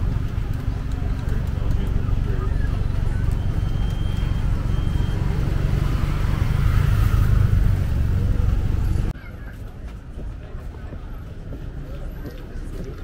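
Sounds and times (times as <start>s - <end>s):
vehicle engine and tyres: 0.0s - 13.0s.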